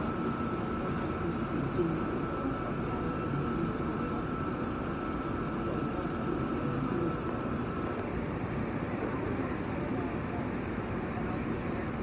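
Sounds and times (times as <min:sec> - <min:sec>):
subway car hum and rumble: 0:00.0 - 0:12.0
thin steady whine: 0:00.0 - 0:12.0.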